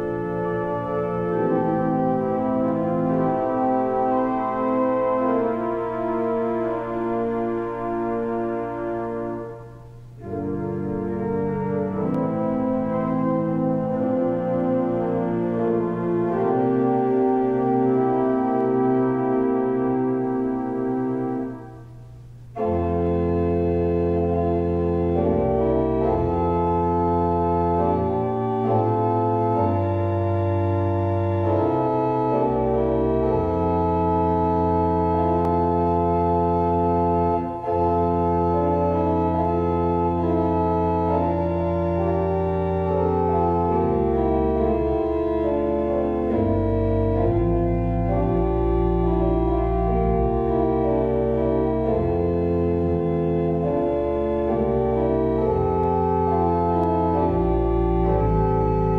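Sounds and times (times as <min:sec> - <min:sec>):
pipe organ chords: 0:00.0 - 0:58.9.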